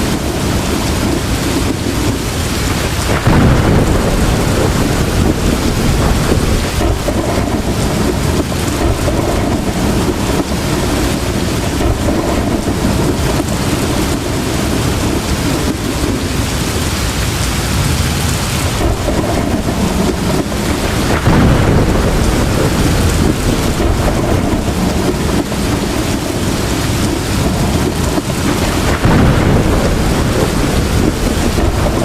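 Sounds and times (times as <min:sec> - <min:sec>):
heavy rain pouring: 0:00.0 - 0:32.0
thunder rumbling: 0:00.0 - 0:32.0.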